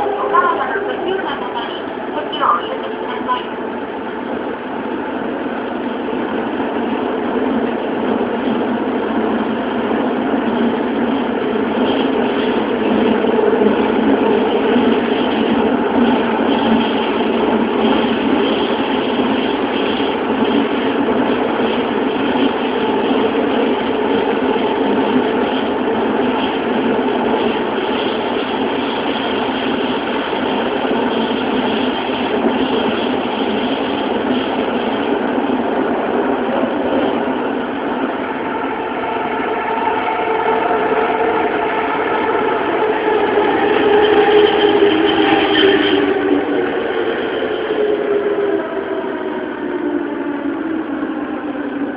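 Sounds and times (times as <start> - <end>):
subway car running in tunnel: 0.0 - 51.9.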